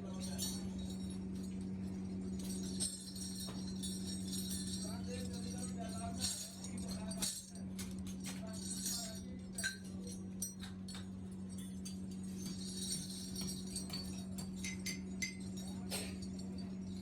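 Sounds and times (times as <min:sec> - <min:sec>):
metal parts clinking: 0:02.4 - 0:17.0.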